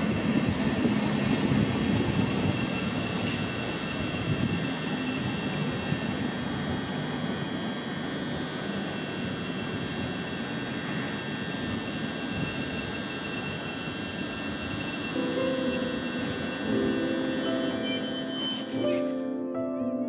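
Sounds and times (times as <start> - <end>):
train wheels rumbling on rails: 0.0 - 19.2
high electrical whine: 0.0 - 19.5.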